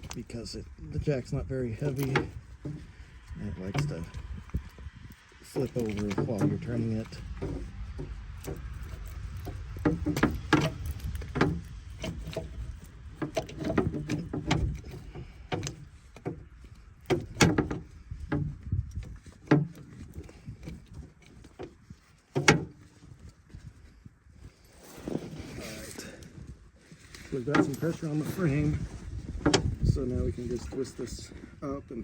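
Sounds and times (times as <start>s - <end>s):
jack metal clicks and clanks: 0.0s - 23.6s, 27.0s - 31.4s.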